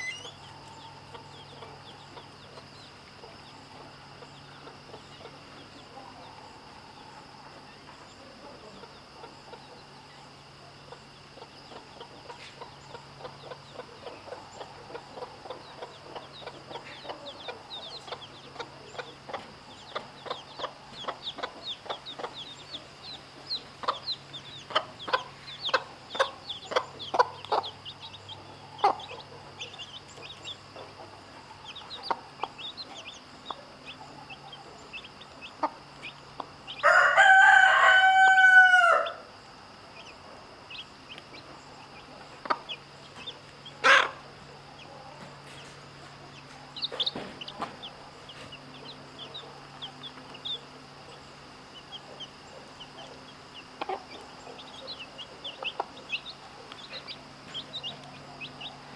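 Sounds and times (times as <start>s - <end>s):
hen clucking: 0.0s - 6.4s, 10.8s - 39.1s, 40.0s - 58.9s
chicks peeping: 0.0s - 58.9s.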